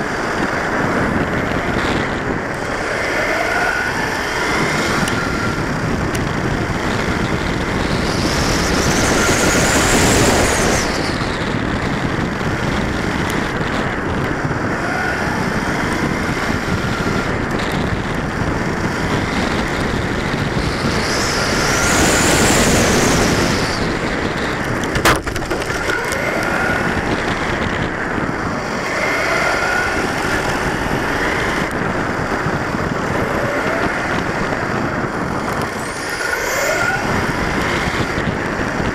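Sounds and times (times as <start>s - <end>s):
high electric motor whine: 0.0s - 38.9s
toy truck tyre and wind noise: 0.0s - 38.9s.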